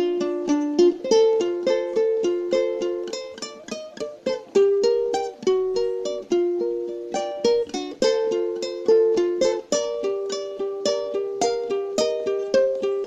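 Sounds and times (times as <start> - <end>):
plucked instrument melody: 0.0 - 13.0.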